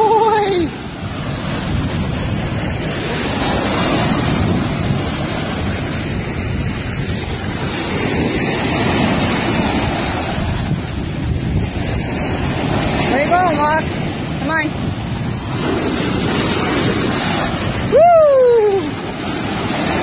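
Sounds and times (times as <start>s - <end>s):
surf waves washing over sand: 0.0s - 20.0s
wind buffeting microphone: 0.0s - 20.0s.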